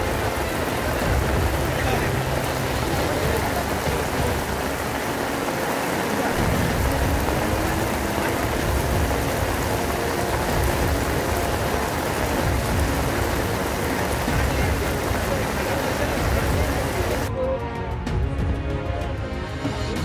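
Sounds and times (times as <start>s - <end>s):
faint voices: 0.0s - 17.3s
heavy rain falling: 0.0s - 17.3s.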